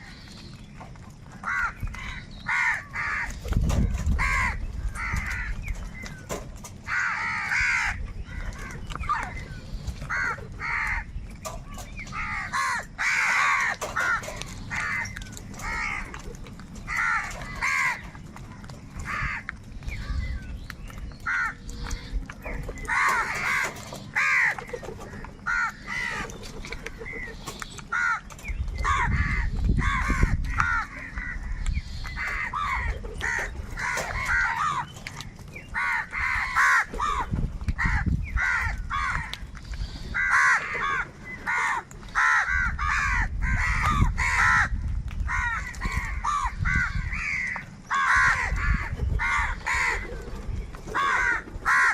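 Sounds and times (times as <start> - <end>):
crows cawing: 1.4 - 9.4, 10.0 - 11.2, 12.1 - 16.2, 16.8 - 20.3, 21.2 - 35.0, 35.7 - 51.9.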